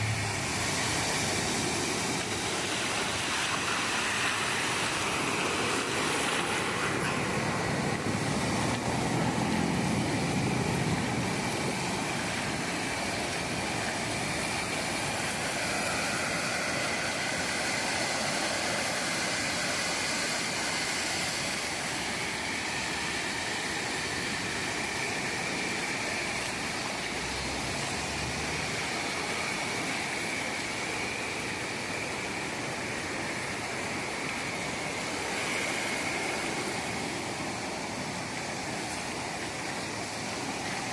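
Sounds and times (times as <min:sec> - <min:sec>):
waves breaking on a beach: 0:00.0 - 0:40.9.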